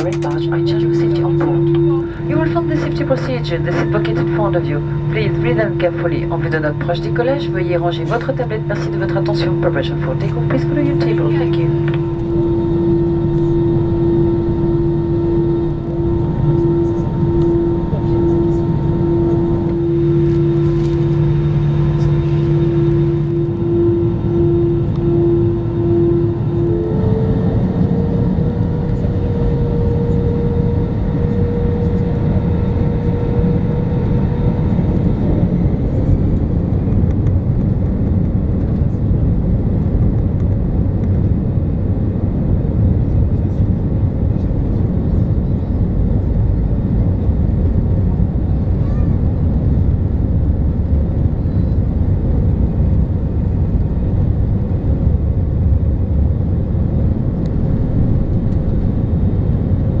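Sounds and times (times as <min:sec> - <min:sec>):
jet engine cabin rumble: 0:00.0 - 1:00.0
steady whine: 0:00.0 - 1:00.0.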